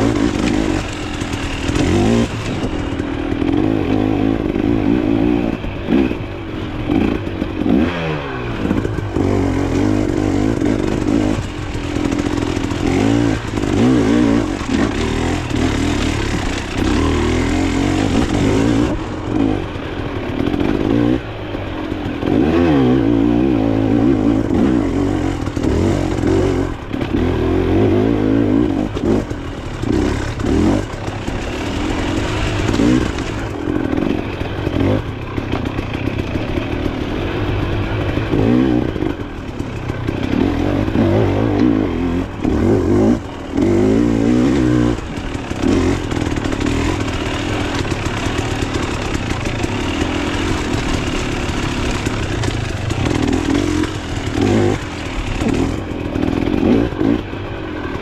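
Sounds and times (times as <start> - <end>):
bike rattling: 0.0 - 58.0
dirt bike engine revving: 0.0 - 58.0.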